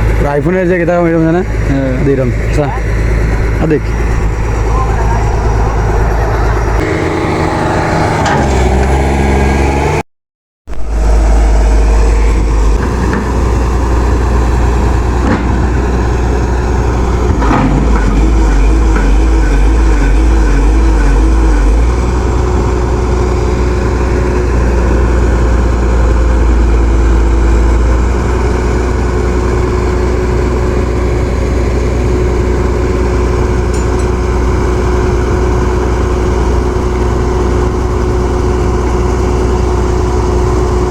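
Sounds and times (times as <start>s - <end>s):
diesel engine running under work: 0.0s - 10.0s, 10.7s - 40.9s.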